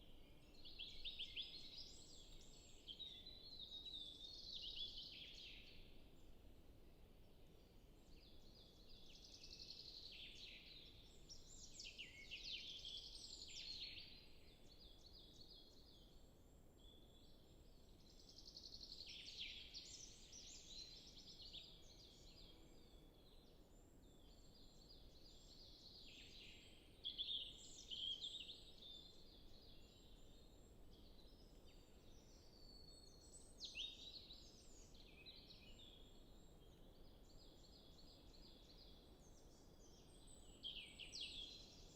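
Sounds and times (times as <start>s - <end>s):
distant songbirds singing: 0.0s - 41.9s.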